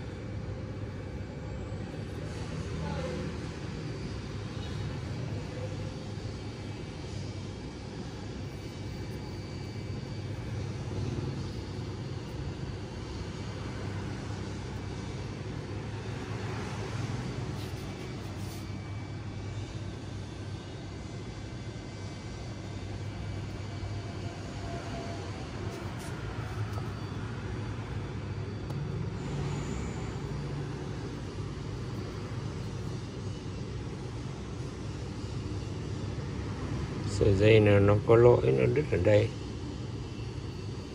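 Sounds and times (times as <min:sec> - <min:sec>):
low mechanical rumble: 0:00.0 - 0:40.9.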